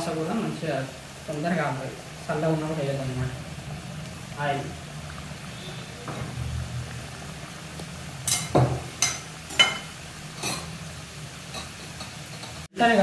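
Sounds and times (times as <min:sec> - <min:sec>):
samosas deep-frying in oil: 0:00.0 - 0:13.0.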